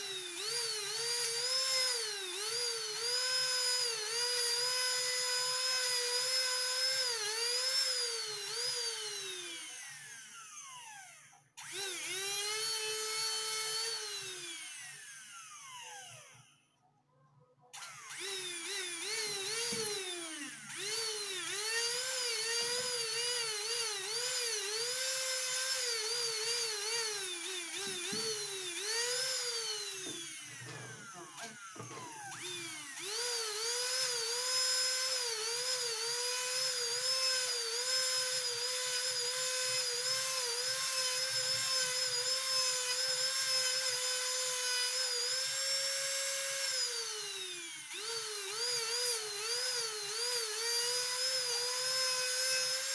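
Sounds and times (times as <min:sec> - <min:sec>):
rotary tool whining: 0:00.0 - 0:10.8, 0:17.8 - 0:52.9.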